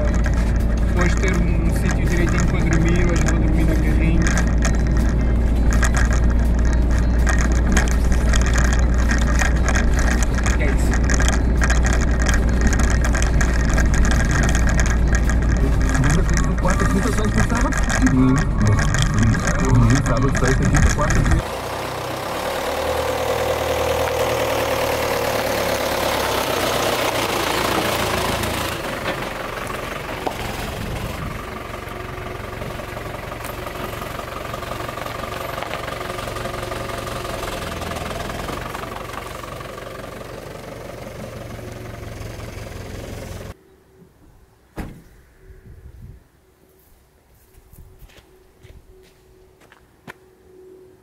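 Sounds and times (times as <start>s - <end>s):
van engine running: 0.0s - 43.6s.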